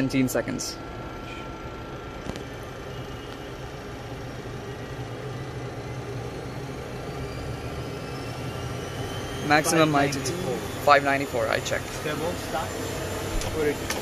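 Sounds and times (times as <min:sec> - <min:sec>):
turboprop engine running: 0:00.0 - 0:14.0
faint rising whine: 0:00.4 - 0:14.0.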